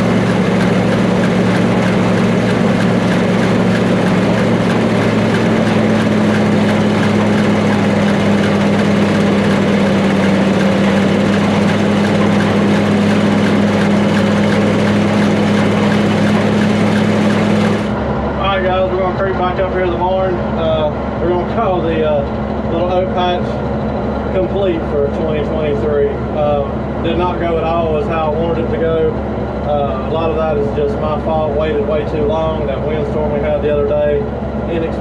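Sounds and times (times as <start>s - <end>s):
combine harvester droning: 0.0s - 35.0s.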